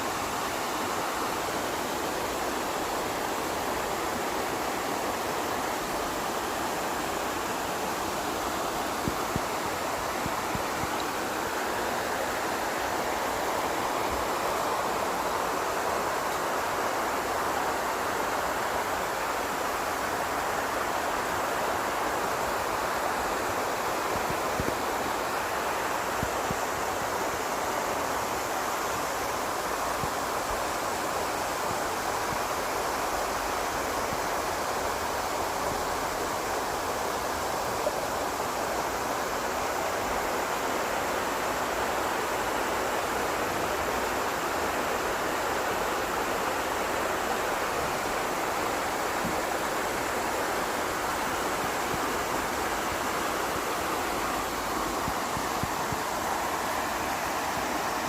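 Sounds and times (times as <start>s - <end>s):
waterfall pouring and splashing: 0.0s - 58.0s.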